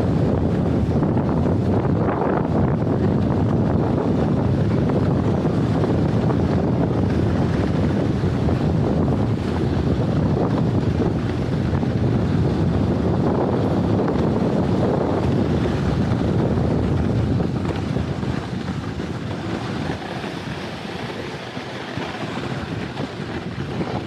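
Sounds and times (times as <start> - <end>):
toboggan rumbling down track: 0.0 - 24.0
wind buffeting microphone: 0.0 - 24.0.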